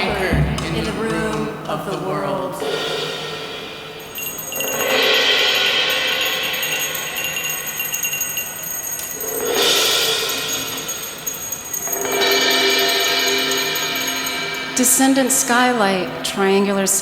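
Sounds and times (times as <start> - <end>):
struck metal percussion ringing: 0.0 - 17.0.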